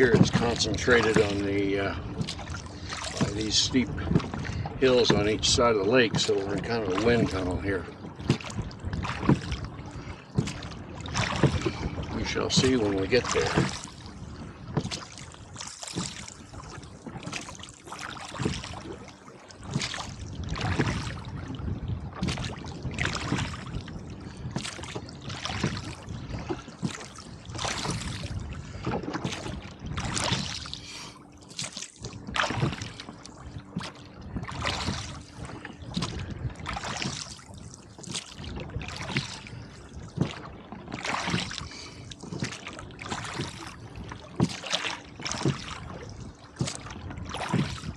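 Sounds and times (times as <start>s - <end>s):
oars splashing through water: 0.0s - 47.9s.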